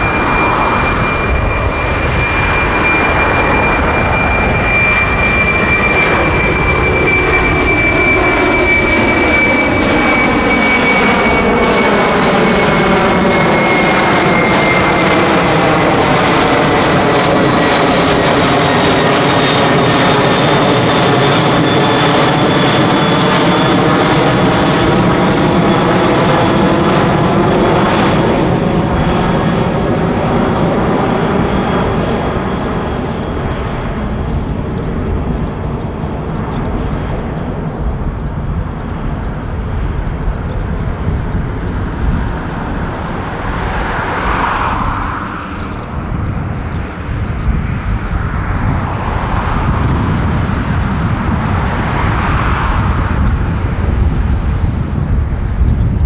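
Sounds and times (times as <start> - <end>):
jet engines roaring with fan whine: 0.0 - 56.0.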